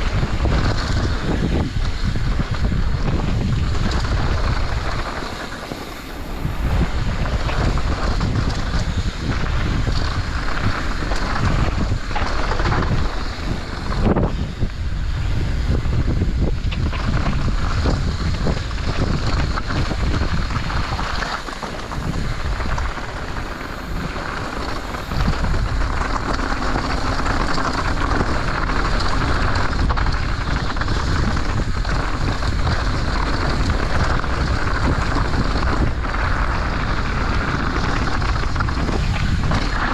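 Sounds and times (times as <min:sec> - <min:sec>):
bike knocks and rattles: 0:00.0 - 0:39.9
tyre noise on dirt: 0:00.0 - 0:39.9
wind buffeting microphone: 0:00.0 - 0:39.9.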